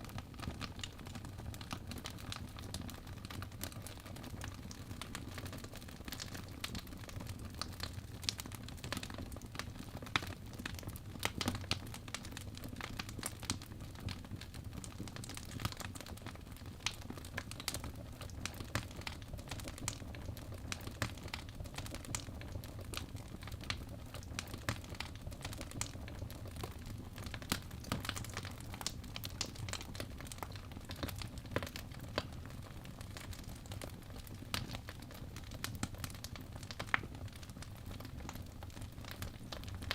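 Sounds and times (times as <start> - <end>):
logs crackling and popping: 0.1 - 39.9.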